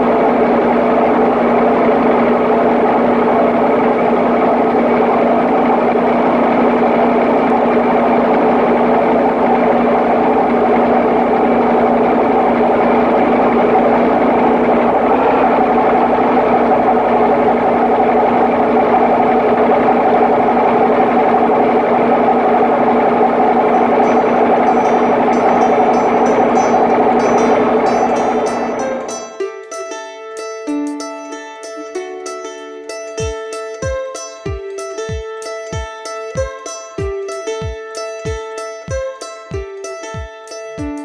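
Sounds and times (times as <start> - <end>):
engine mechanical hum: 0.0 - 39.8.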